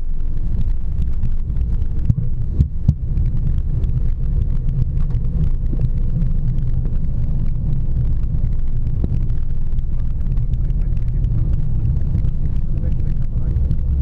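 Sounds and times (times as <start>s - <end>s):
jet cockpit low rumble: 0.0s - 14.0s.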